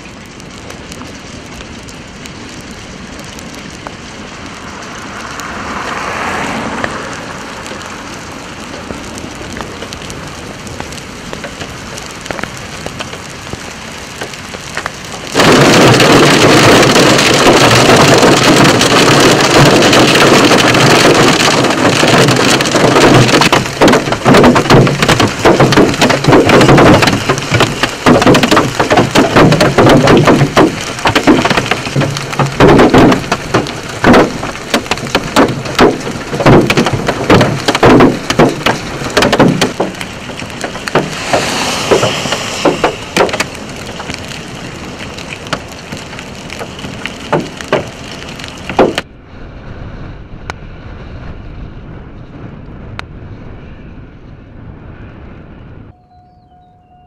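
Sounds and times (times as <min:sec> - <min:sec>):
hail pattering on ground: 0:00.0 - 0:49.1
heavy hail pounding: 0:02.5 - 0:49.1.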